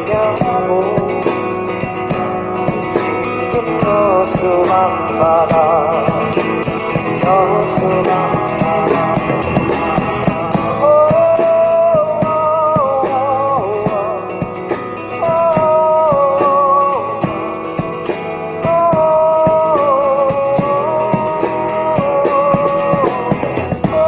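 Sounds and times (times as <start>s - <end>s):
lead melody long held notes: 0.0s - 24.0s
live band playing pop-rock: 0.0s - 24.0s.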